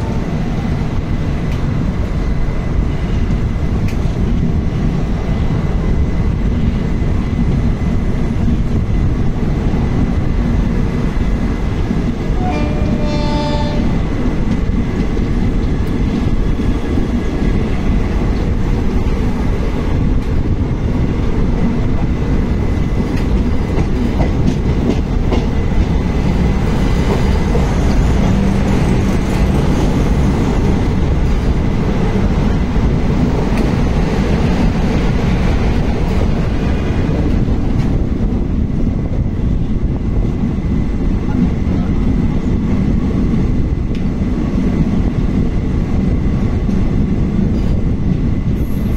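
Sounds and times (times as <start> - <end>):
train wheels rumbling on rails: 0.0 - 48.9
clickety-clack rattle over track: 0.9 - 2.2, 3.1 - 40.4, 41.0 - 48.9.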